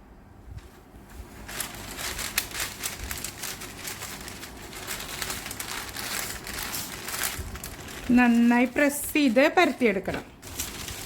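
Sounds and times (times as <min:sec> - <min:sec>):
paper crinkling and rustling: 0:00.6 - 0:11.0.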